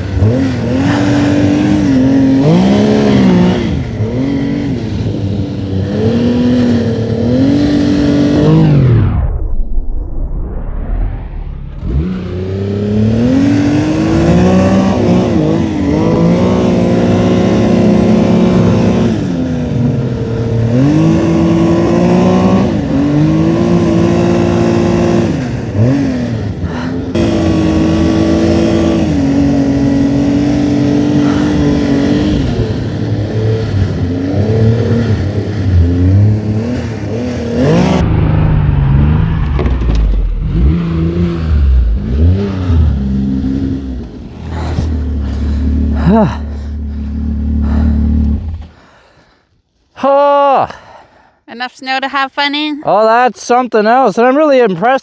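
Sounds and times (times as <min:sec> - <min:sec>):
snowmobile engine revving: 0:00.0 - 0:09.4, 0:10.7 - 0:49.1.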